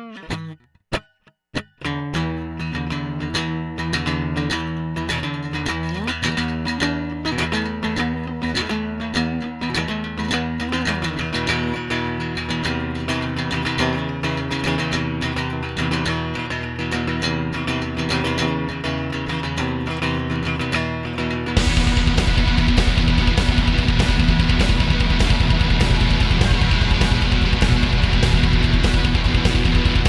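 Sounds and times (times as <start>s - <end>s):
slide guitar: 0.0s - 0.6s, 1.6s - 30.0s.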